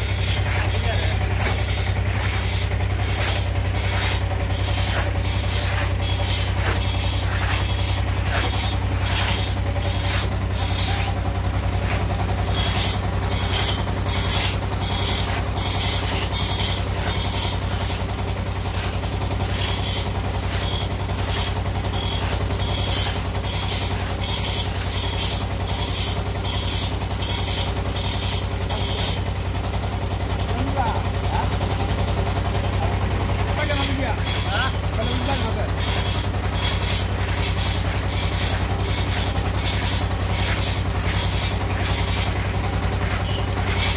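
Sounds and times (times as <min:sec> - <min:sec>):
hand saw cutting wood: 0:00.0 - 0:29.3, 0:33.4 - 0:43.9
steady low hum: 0:00.0 - 0:29.9, 0:30.8 - 0:43.9.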